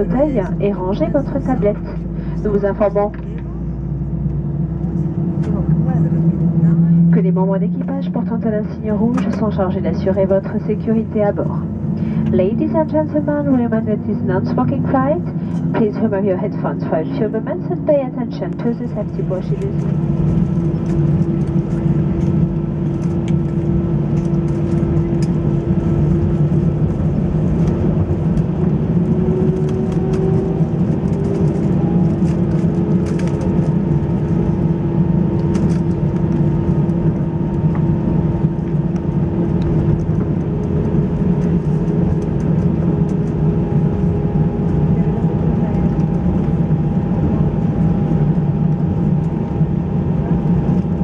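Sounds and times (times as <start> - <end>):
jet engines droning: 0.0 - 51.0.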